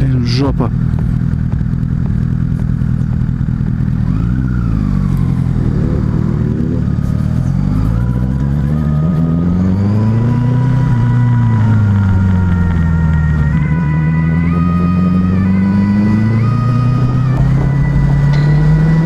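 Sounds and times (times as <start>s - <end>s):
motorcycle engine at low revs: 0.0s - 19.0s.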